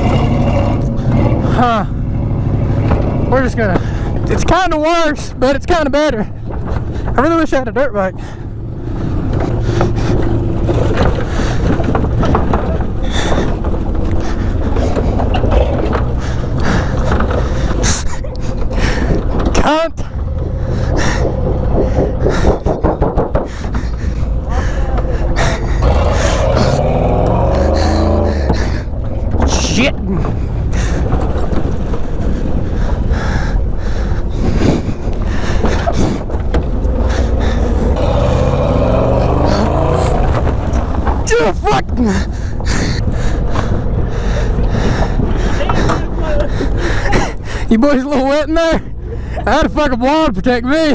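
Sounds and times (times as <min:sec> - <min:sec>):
truck body knocks and rattles: 0:00.0 - 0:50.9
truck engine rumble: 0:00.0 - 0:50.9.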